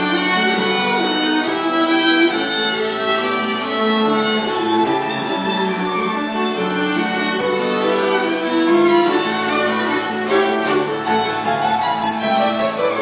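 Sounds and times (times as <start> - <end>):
piano accompaniment: 0.0 - 13.0
violin and cello bowing: 0.0 - 13.0.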